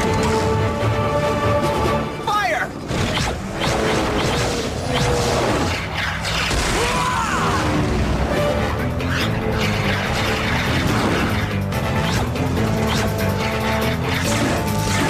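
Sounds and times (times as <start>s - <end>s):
dramatic action music: 0.0s - 15.0s.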